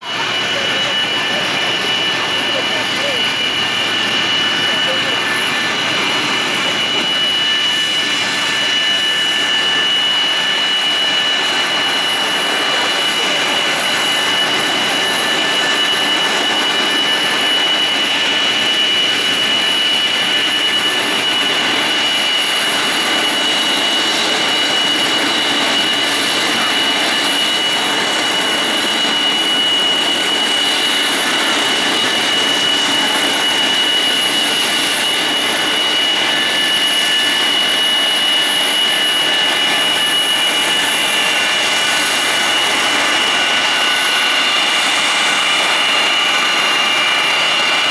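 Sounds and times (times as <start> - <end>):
jet engines running: 0.0 - 47.9.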